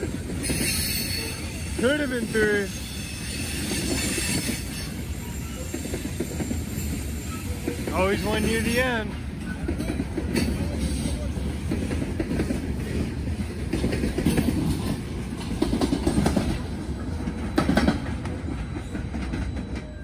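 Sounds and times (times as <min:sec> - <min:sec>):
train rumbling by: 0:00.0 - 0:20.0
wheels clanking over rail joints: 0:03.4 - 0:20.0.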